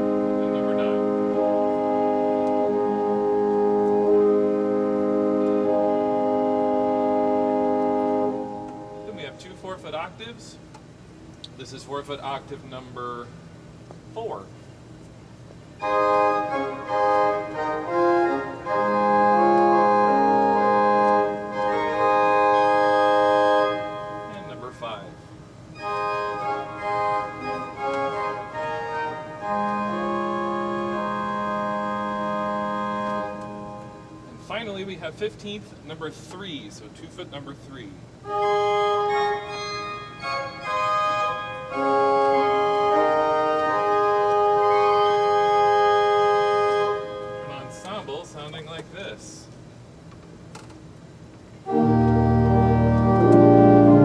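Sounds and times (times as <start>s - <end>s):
pipe organ playing chords: 0.0s - 10.4s, 15.8s - 49.1s, 51.1s - 54.0s.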